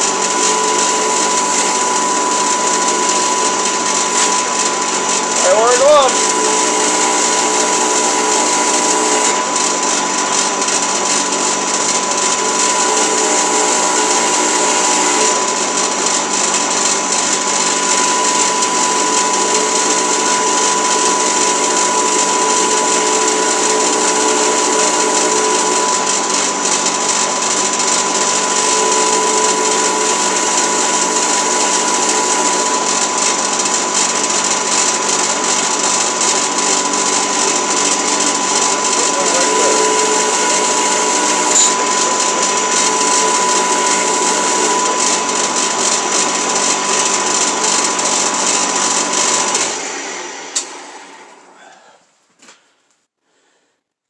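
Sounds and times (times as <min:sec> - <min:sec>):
electric motor whining: 0:00.0 - 0:51.6.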